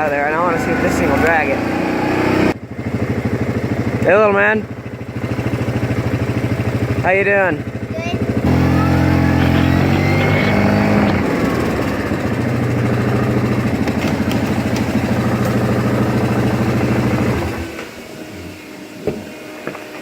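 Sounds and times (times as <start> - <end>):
quad engine running: 0.0 - 20.0.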